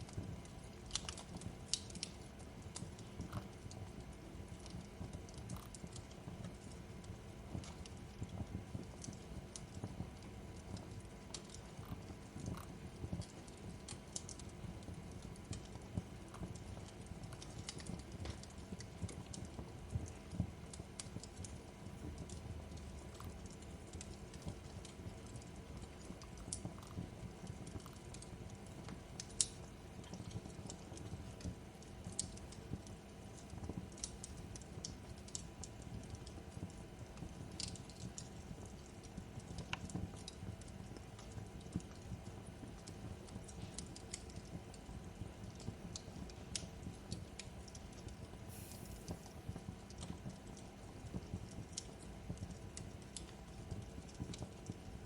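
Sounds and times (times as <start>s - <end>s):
burning wood popping and snapping: 0.0s - 55.0s
low rumble of fire: 0.0s - 55.0s.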